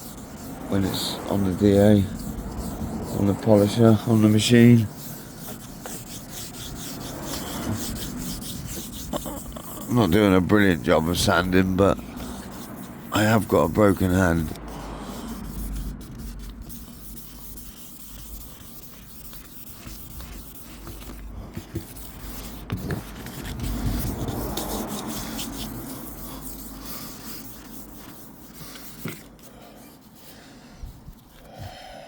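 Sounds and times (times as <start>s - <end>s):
sandpaper rubbing on paint: 0.0s - 31.4s.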